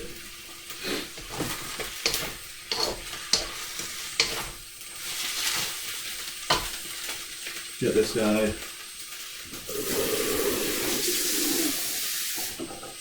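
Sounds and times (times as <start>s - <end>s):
noodles sizzling in a pan: 0.0s - 13.0s.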